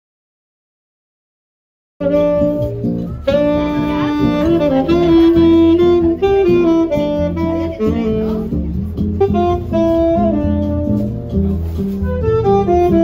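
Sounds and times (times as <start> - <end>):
backing track with bass: 2.0 - 13.0
saxophone playing jazzy melody: 2.0 - 13.0.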